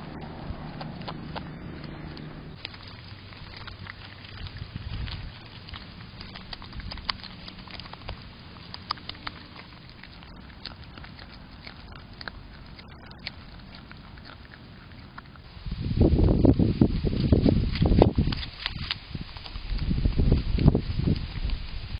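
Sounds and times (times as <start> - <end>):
animal chewing: 0.0 - 21.9
steady low hiss: 0.0 - 21.9.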